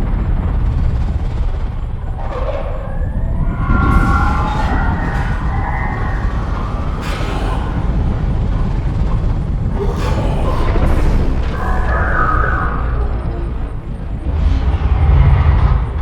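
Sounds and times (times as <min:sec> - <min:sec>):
deep continuous rumble: 0:00.0 - 0:16.0
wavering siren-like wailing: 0:02.0 - 0:16.0.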